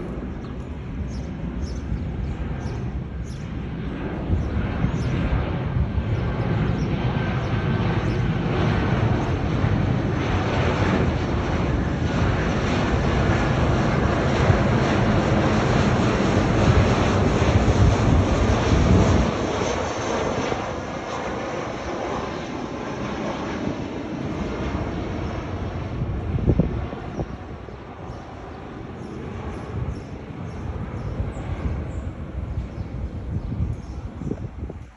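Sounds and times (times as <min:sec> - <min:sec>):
jet engine roar: 0:00.0 - 0:34.9.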